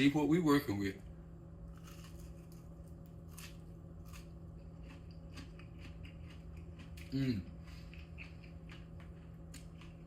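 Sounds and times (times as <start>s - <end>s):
steady low hum: 0.0s - 10.0s
crisp chewing crunches: 1.7s - 10.0s.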